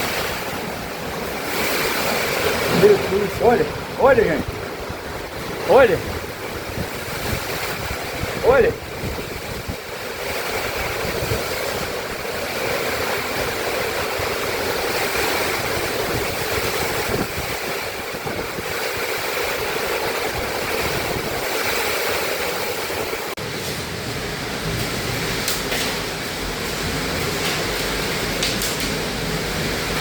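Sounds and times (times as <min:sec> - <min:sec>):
heavy rain and strong wind: 0:00.0 - 0:30.0.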